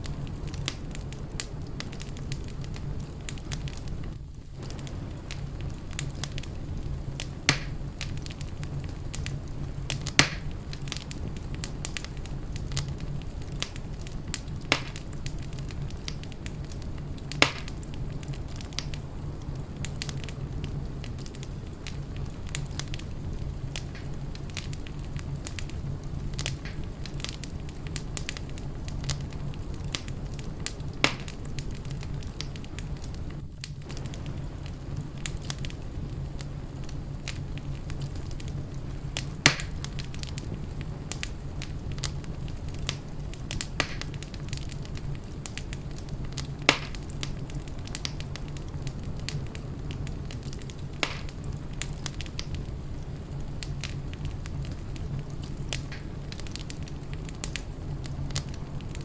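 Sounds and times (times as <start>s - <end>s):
fire burning in fireplace: 0.0s - 59.0s
sharp fire pops: 0.0s - 59.0s.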